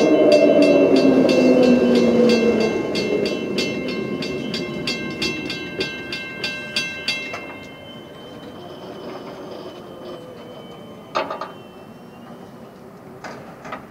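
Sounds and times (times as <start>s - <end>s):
level crossing bell ringing: 0.0s - 12.3s
electric train rumble: 0.0s - 13.9s.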